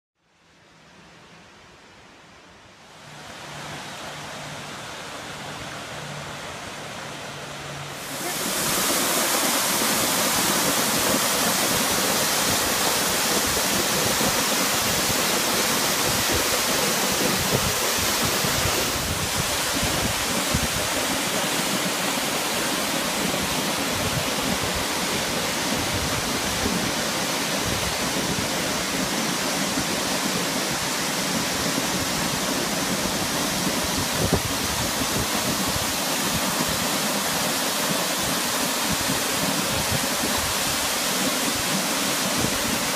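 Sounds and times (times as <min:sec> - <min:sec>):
waterfall rushing: 0:00.7 - 0:42.9.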